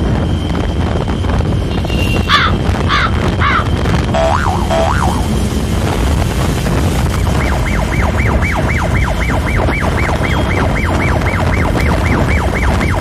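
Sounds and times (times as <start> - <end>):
wind and road rumble: 0.0 - 13.0
warbling electronic tone: 1.6 - 13.0.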